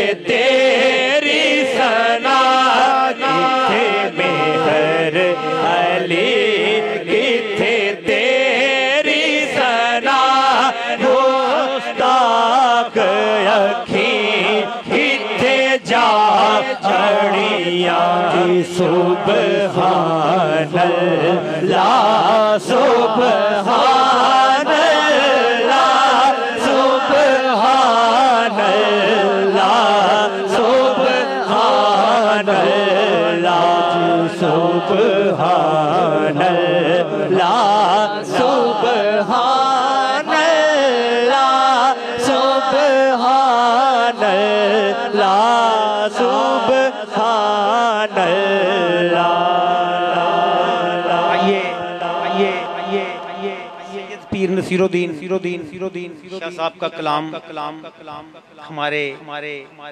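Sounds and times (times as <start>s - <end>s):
man singing into a microphone: 0.0s - 59.9s.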